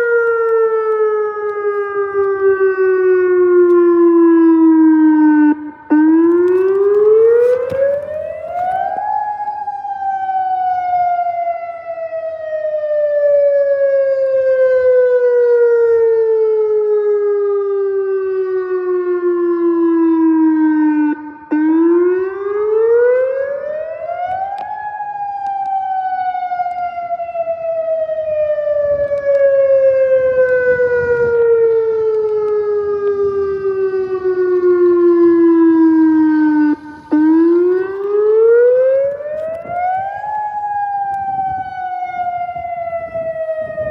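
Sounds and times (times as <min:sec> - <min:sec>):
tornado warning siren wailing: 0:00.0 - 0:43.9.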